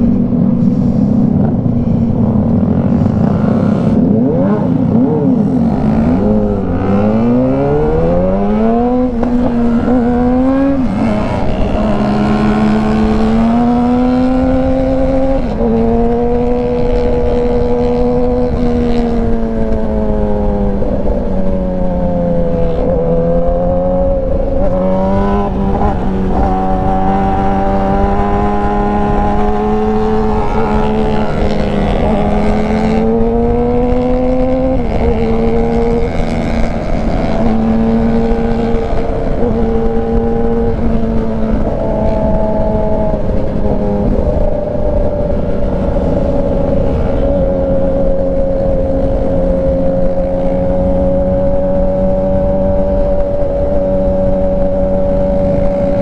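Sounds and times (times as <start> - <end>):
motorcycle engine accelerating: 0.0 - 56.0
wind rushing: 0.0 - 56.0.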